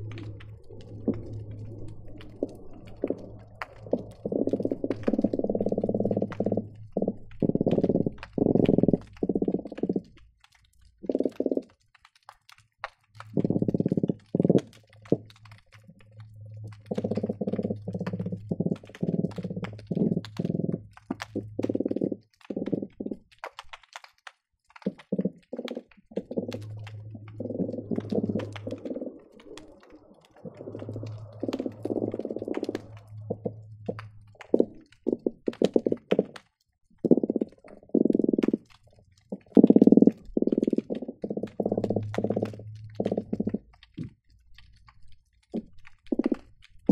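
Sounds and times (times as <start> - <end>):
fish drumming underwater: 0.0 - 46.9.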